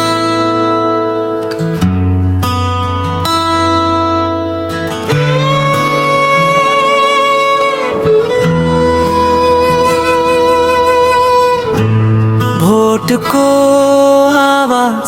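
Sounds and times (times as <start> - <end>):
instrumental music with held melody: 0.0 - 14.8.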